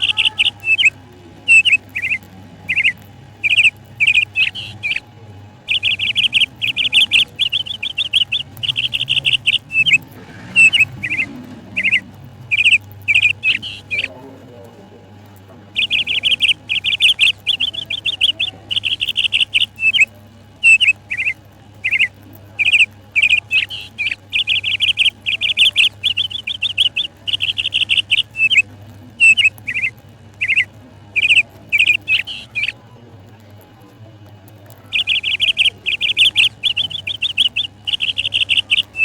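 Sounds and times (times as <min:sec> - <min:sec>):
budgerigars chirping: 0:00.0 - 0:05.0, 0:05.7 - 0:14.2, 0:15.7 - 0:32.8, 0:34.6 - 0:39.0.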